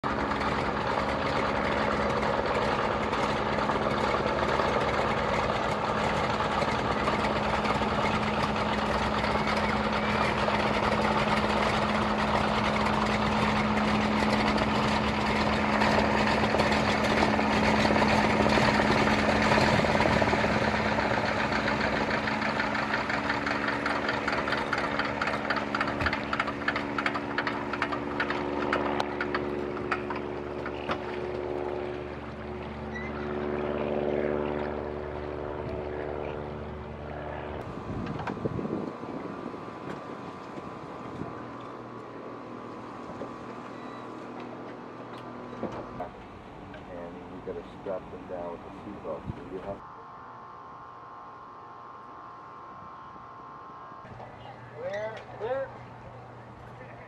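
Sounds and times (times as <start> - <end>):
radial aircraft engine running: 0.0 - 57.0.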